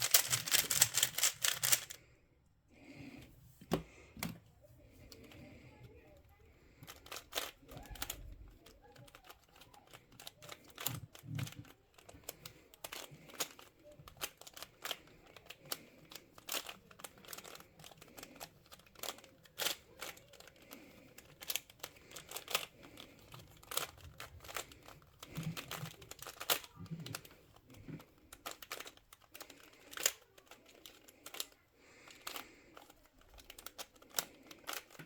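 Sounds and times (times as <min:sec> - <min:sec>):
puzzle cube clicking and rattling: 0:00.0 - 0:02.0, 0:06.7 - 0:35.0.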